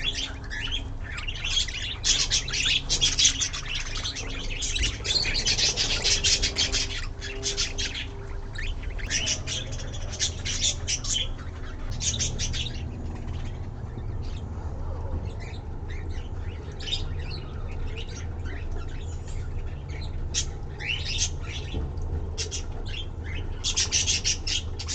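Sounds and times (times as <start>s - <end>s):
budgerigars chirping: 0.0s - 24.9s.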